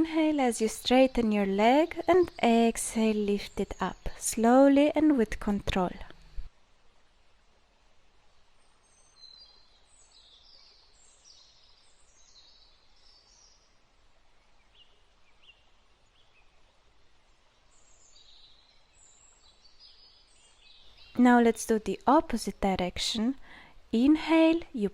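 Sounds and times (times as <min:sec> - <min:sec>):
small birds chirping: 0:00.0 - 0:06.0, 0:08.5 - 0:22.6
faint steady hiss: 0:00.0 - 0:24.9.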